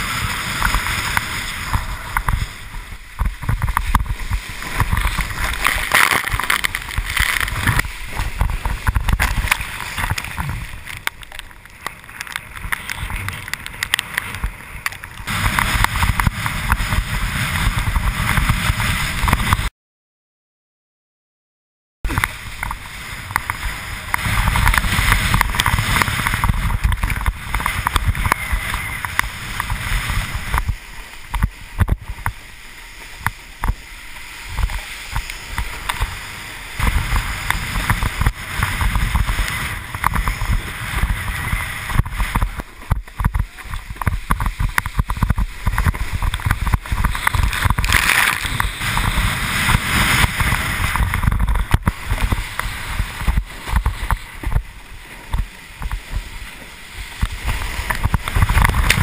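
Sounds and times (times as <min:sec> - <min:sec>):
rush of water and spray: 0:00.0 - 0:19.7, 0:22.1 - 0:59.0
wind buffeting microphone: 0:00.0 - 0:19.7, 0:22.1 - 0:59.0.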